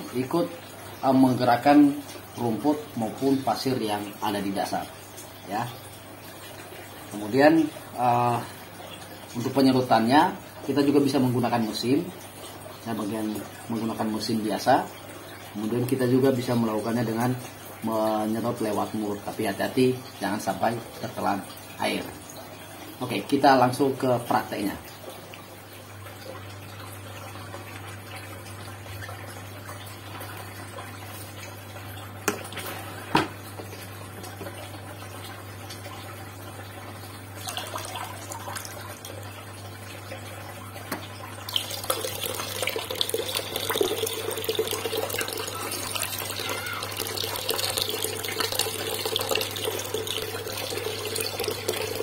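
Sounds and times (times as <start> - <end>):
aquarium water trickling: 0.0 - 52.0.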